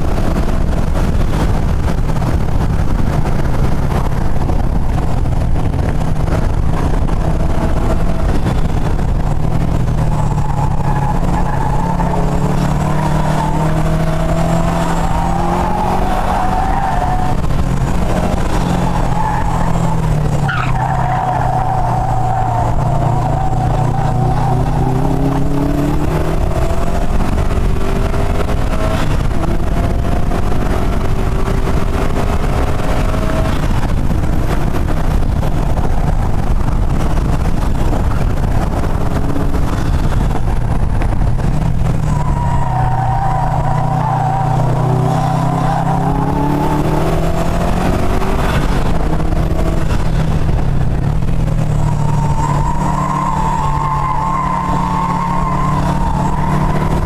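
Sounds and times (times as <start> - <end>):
car engine accelerating hard: 0.0 - 57.0
wind and tyre noise: 0.0 - 57.0.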